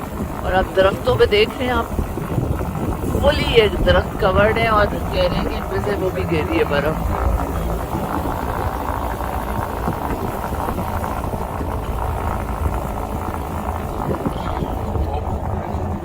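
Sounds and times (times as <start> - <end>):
car cabin road noise: 0.0 - 16.0.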